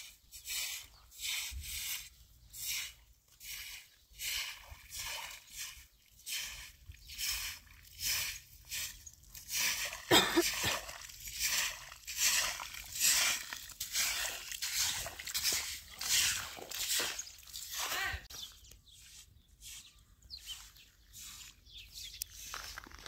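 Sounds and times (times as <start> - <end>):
straw broom sweeping wet path: 0.0 - 23.0.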